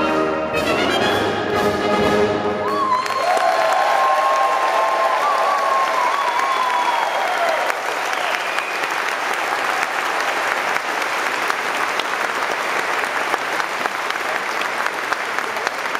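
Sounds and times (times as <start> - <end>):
audience applauding: 2.8 - 15.9.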